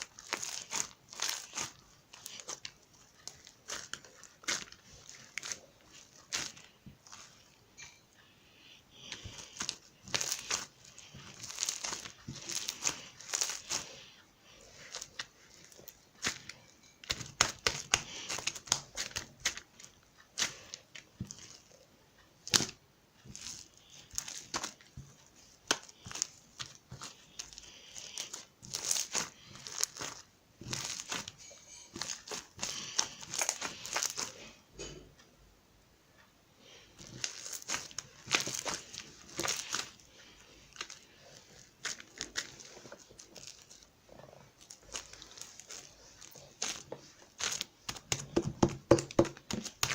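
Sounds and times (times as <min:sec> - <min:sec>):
slime popping and crackling: 0:00.0 - 0:07.9, 0:09.0 - 0:14.1, 0:14.7 - 0:21.8, 0:22.4 - 0:34.5, 0:37.0 - 0:49.9.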